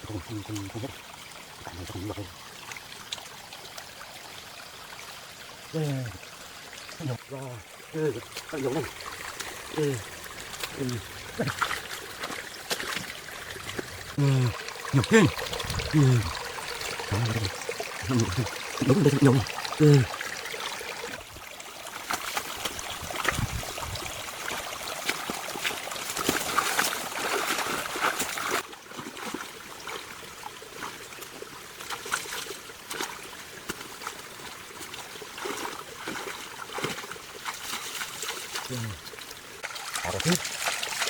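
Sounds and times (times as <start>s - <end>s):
water trickling and splashing: 0.0s - 41.0s.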